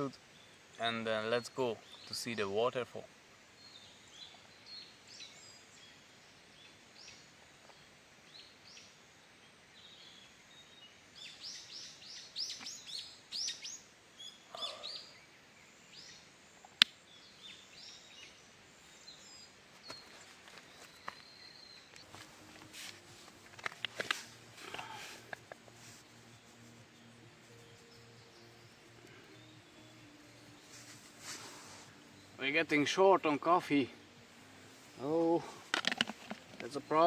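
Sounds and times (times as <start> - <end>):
small birds chirping: 0.0 - 2.8, 3.4 - 37.0.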